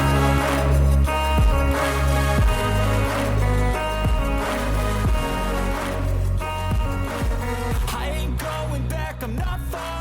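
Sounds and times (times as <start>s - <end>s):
pop music with heavy bass: 0.0s - 10.0s.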